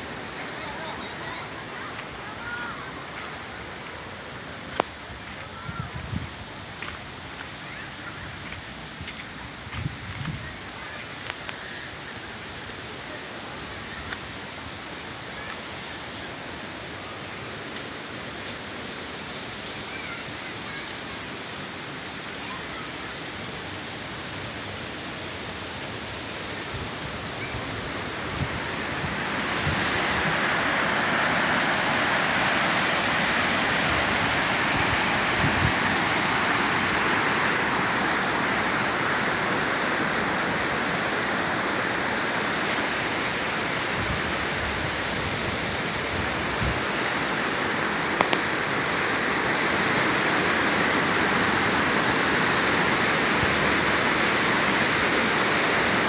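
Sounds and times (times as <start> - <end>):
rushing river water: 0.0 - 56.0.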